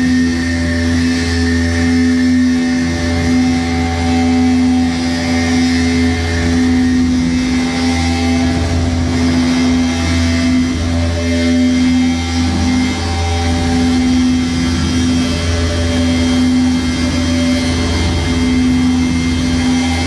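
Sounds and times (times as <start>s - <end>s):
electronic noise music drone: 0.0s - 20.0s.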